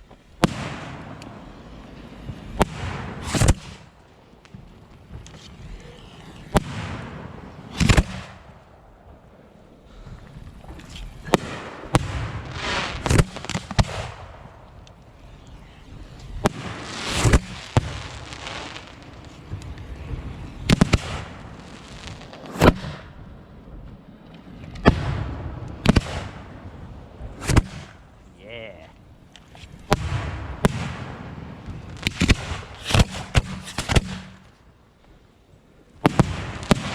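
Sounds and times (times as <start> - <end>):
fireworks bangs: 0.0 - 28.2, 29.7 - 34.8, 36.0 - 36.9.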